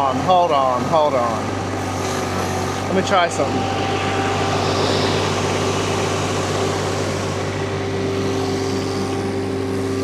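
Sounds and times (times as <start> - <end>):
skid steer engine running: 0.0 - 10.0
steady whine: 0.0 - 10.0.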